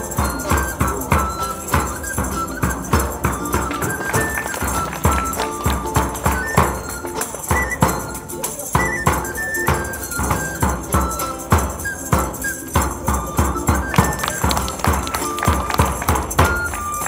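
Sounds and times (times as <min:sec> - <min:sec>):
end-blown flute melody: 0:00.0 - 0:17.0
frame drum beat: 0:00.0 - 0:17.0
plucked lute: 0:00.0 - 0:17.0.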